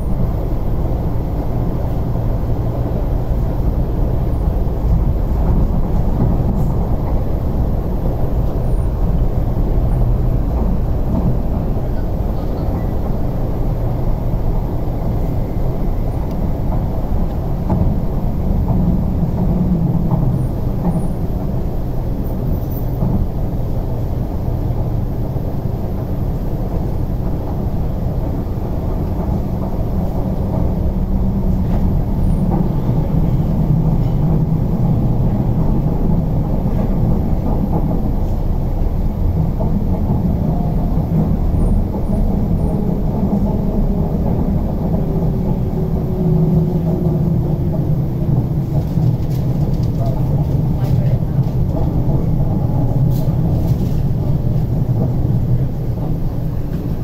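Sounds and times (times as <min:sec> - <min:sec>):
electric train low rumble: 0:00.0 - 0:57.0.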